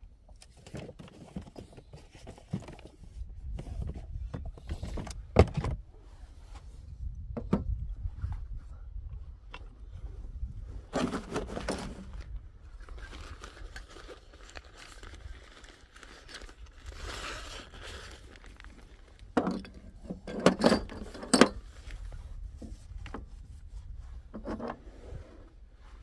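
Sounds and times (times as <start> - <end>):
rustling and crinkling: 0.3 - 7.0, 7.8 - 26.0.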